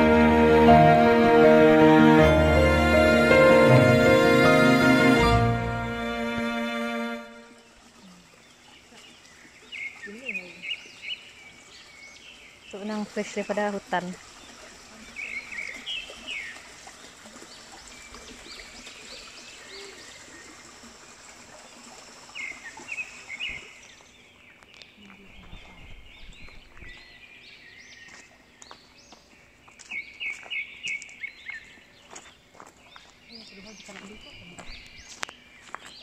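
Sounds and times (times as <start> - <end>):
birds chirping: 2.2 - 20.7, 21.7 - 36.0.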